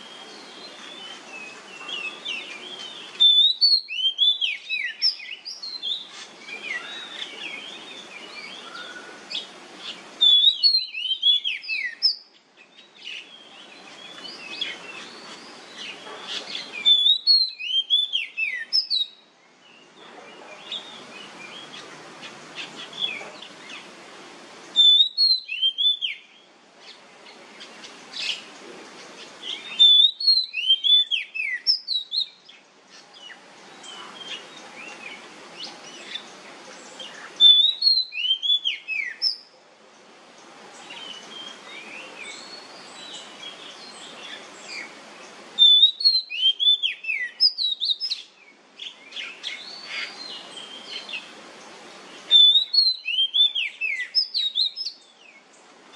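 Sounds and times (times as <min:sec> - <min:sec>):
bird singing whistled notes: 0:00.0 - 0:21.9, 0:24.7 - 0:27.0, 0:29.4 - 0:32.6, 0:33.2 - 0:39.5, 0:40.8 - 0:45.0, 0:45.6 - 0:51.3, 0:52.2 - 0:55.5.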